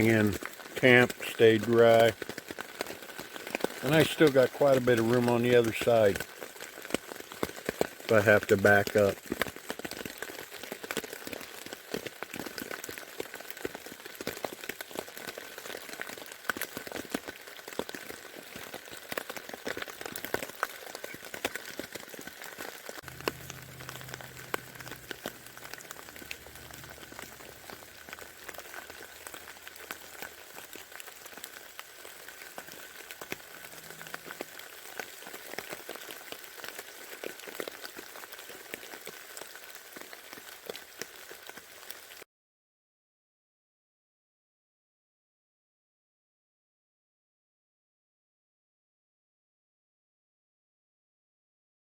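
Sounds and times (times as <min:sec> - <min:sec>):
rain pattering on tent fabric: 0:00.0 - 0:42.3.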